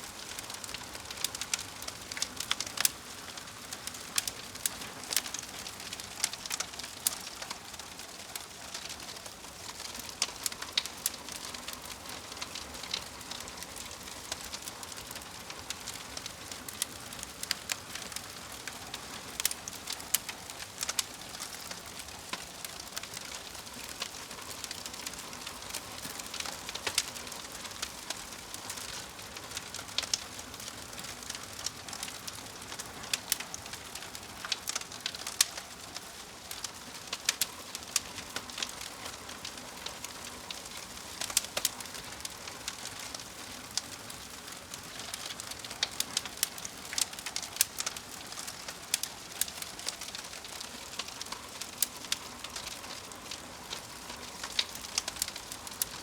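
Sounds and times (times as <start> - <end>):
soft steady hiss: 0.0 - 56.0
wood fire crackling and popping: 0.0 - 56.0.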